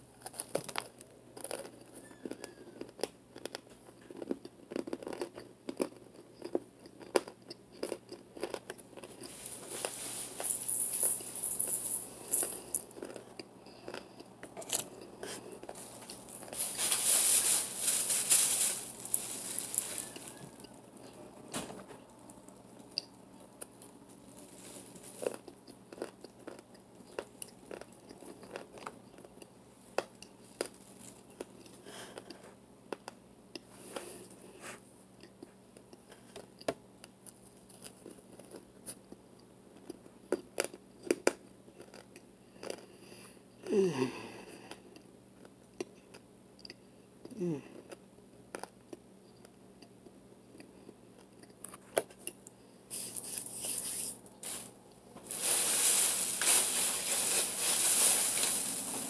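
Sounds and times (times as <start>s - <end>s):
crunching and chewing: 0.0s - 21.4s, 22.0s - 43.4s, 44.4s - 59.0s.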